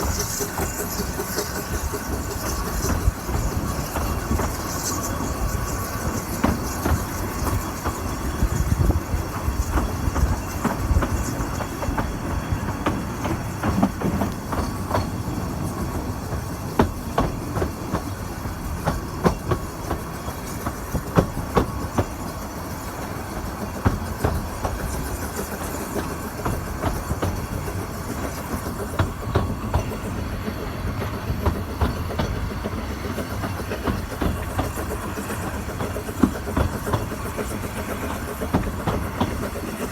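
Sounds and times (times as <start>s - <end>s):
train rumbling on rails: 0.0s - 39.9s
wheels clicking on track: 0.0s - 39.9s.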